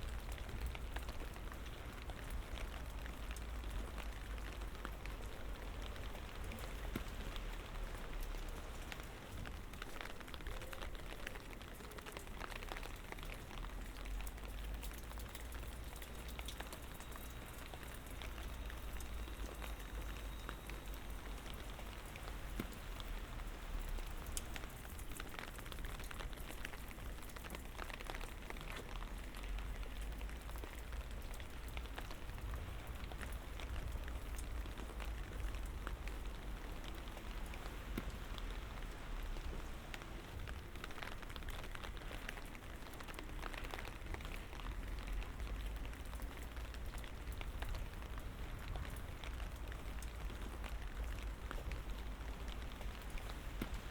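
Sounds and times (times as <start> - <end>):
light rain falling: 0.0 - 53.9.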